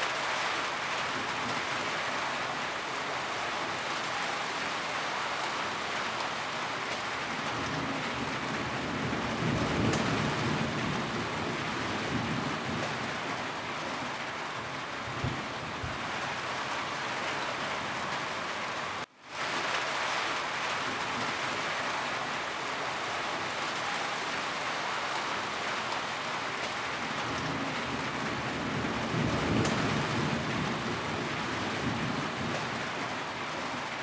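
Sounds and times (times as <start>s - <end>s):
rain falling on a roof: 0.0s - 34.0s.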